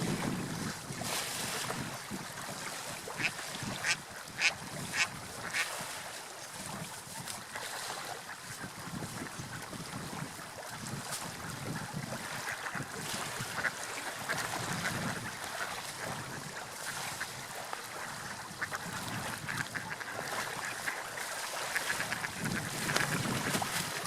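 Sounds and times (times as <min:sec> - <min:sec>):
water lapping and splashing: 0:00.0 - 0:24.0.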